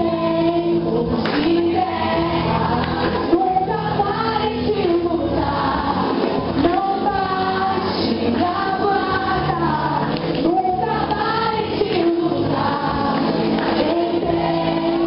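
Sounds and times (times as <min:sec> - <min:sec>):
accompanying music: 0:00.0 - 0:15.0
woman singing into a microphone: 0:00.0 - 0:15.0.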